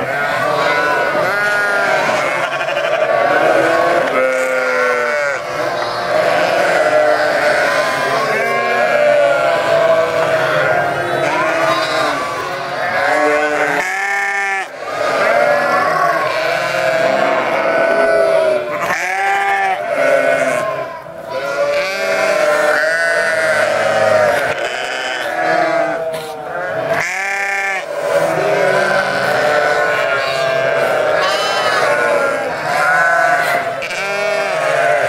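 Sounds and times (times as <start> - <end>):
sheep bleating: 0.0 - 35.0.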